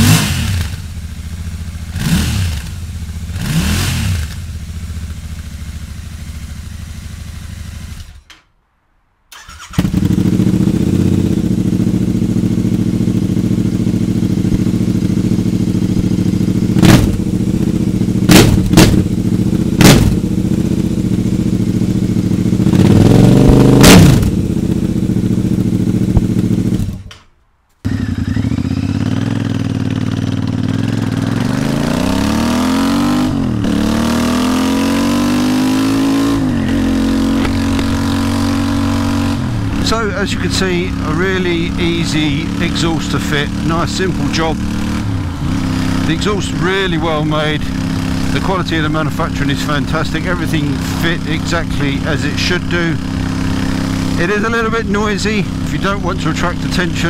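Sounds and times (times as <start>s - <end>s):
motorcycle engine idling: 0.0s - 3.4s, 4.2s - 8.1s, 9.4s - 27.2s, 27.8s - 57.0s
motorcycle accelerating: 0.0s - 8.4s, 9.4s - 27.2s, 27.8s - 57.0s
motorcycle throttle blips: 9.3s - 57.0s.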